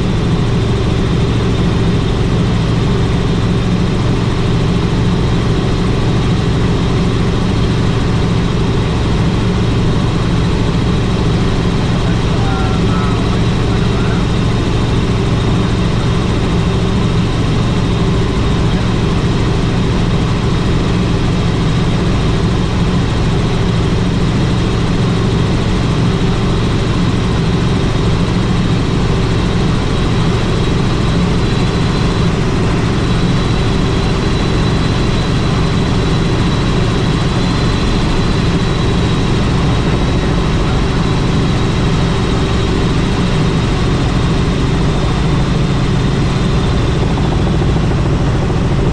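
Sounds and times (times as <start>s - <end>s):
helicopter rotor and turbine noise: 0.0s - 48.9s.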